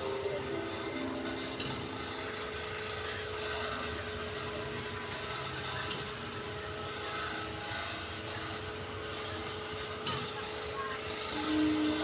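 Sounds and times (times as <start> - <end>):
diesel train hum and rumble: 0.0 - 12.0.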